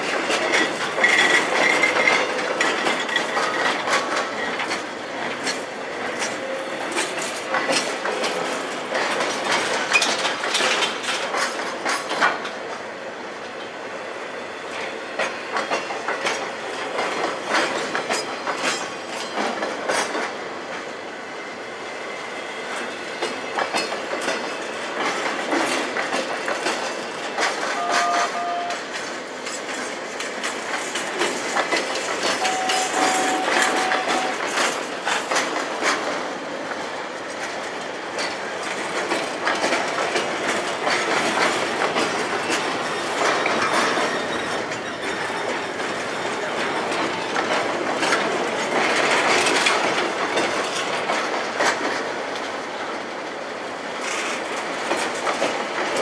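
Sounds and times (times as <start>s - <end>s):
train wheels clacking over rail joints: 0.0s - 13.7s, 14.7s - 20.9s, 22.6s - 27.8s, 28.9s - 56.0s.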